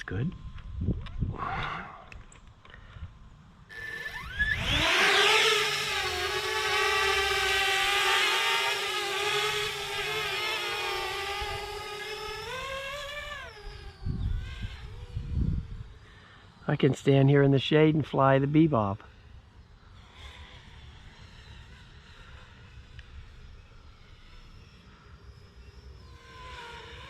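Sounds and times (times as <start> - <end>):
drone propellers whining: 1.0 - 27.0.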